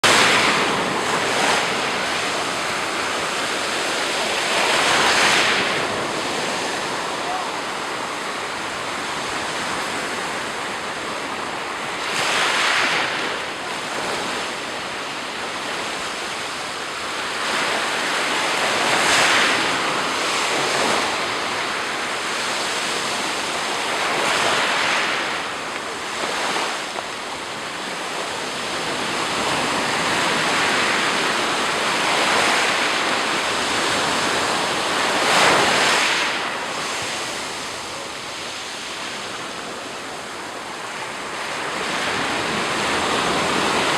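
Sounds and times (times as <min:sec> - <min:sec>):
sea surf breaking: 0:00.0 - 0:43.9
wind noise on microphone: 0:00.0 - 0:43.9.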